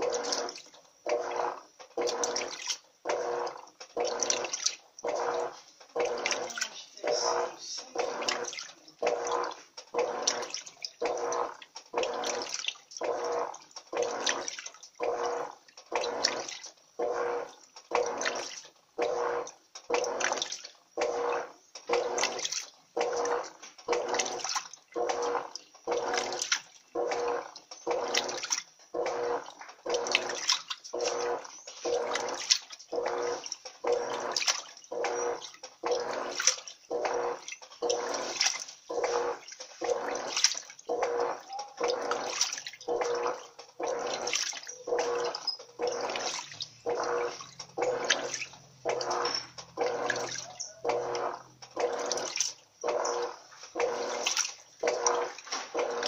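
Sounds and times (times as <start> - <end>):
washing machine agitator swishing water: 0.0 - 56.0
washing machine motor hum: 0.0 - 56.0.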